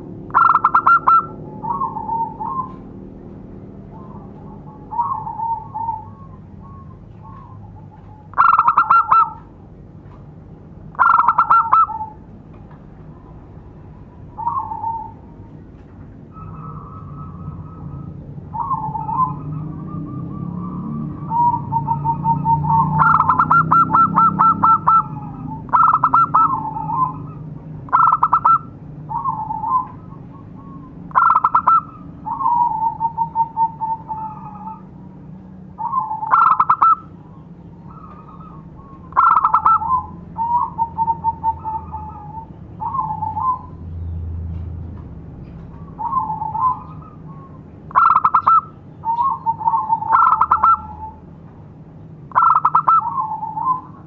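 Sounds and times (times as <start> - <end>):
dove cooing: 0.0 - 9.5, 10.9 - 12.3, 14.2 - 15.5, 16.3 - 43.9, 45.6 - 51.3, 52.3 - 54.0.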